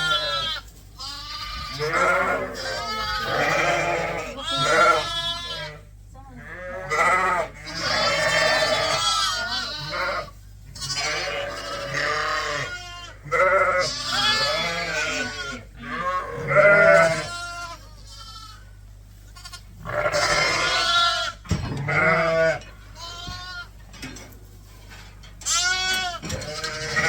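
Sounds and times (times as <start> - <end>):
sheep and lambs bleating: 0.0 - 23.8, 25.4 - 27.0
steady low hum: 0.0 - 27.0.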